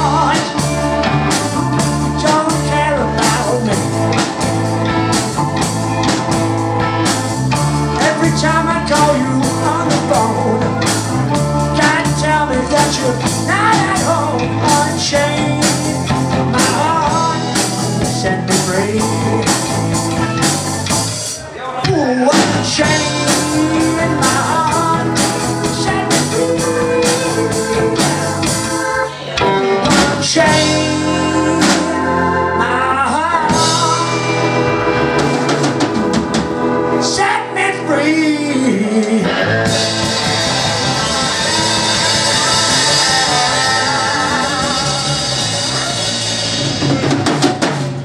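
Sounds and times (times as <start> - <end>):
live rock band playing: 0.0 - 48.0.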